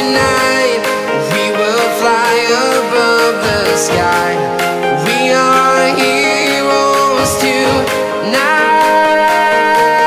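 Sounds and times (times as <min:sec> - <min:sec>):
pop song with singing: 0:00.0 - 0:10.0.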